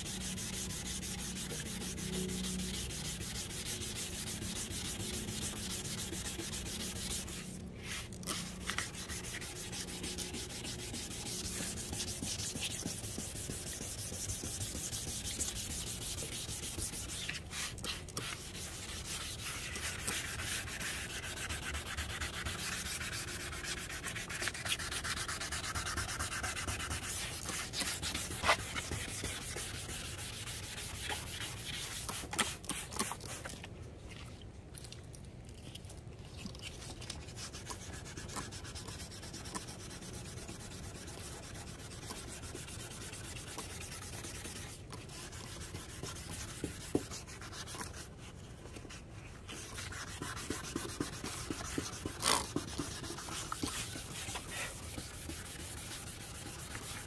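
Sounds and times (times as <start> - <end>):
sandpaper on plastic: 0.0 - 33.5, 36.6 - 48.1, 48.8 - 57.0.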